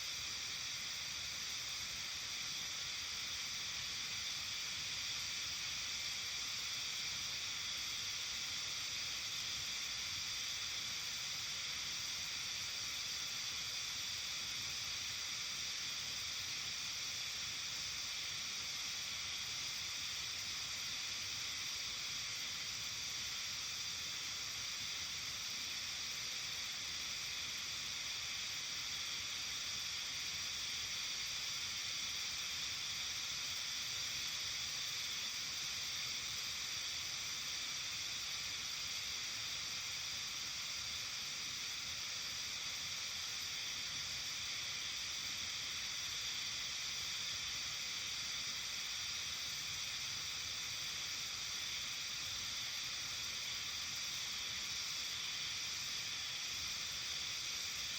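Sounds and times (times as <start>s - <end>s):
outdoor evening hiss: 0.0s - 57.9s.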